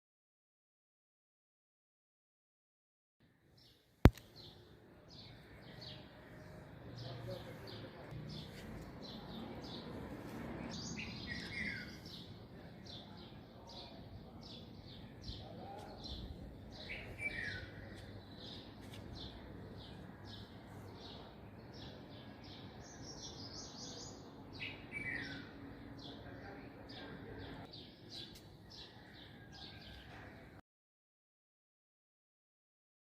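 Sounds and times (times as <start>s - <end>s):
birds chirping: 3.6s - 30.3s.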